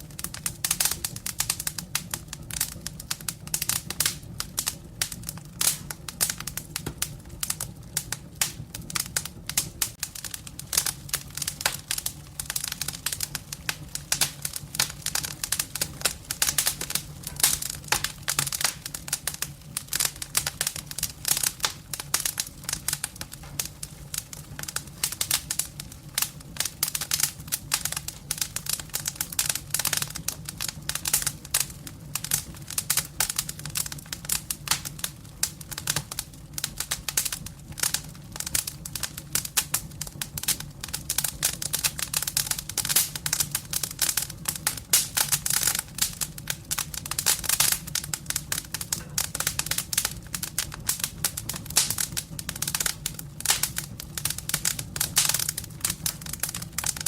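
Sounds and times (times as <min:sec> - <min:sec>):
firewood crackling: 0:00.0 - 0:57.0.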